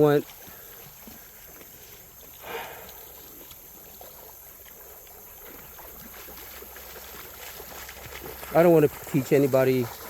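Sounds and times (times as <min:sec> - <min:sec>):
faint creek water trickling: 0:00.0 - 0:10.0
small splashy ticks: 0:00.0 - 0:10.0.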